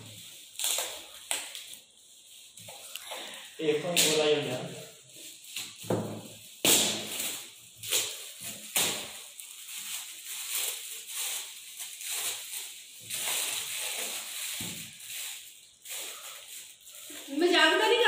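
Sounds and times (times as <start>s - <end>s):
wrapping paper crinkling and tearing: 0.0s - 18.0s.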